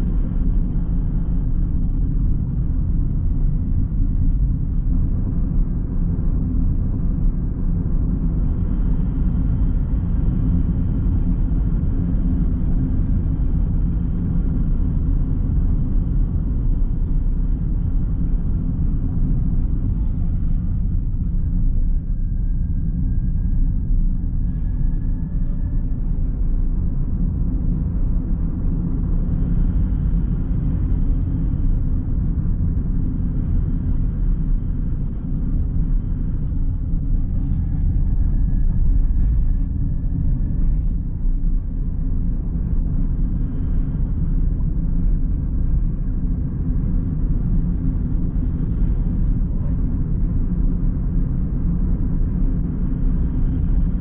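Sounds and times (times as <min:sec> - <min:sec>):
car road and engine rumble: 0:00.0 - 0:54.0
faint thin whine: 0:00.0 - 0:54.0.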